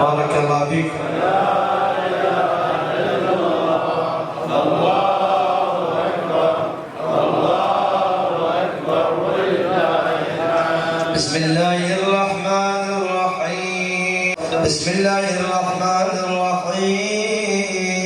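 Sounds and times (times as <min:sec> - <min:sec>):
man chanting melodic recitation: 0:00.0 - 0:18.0.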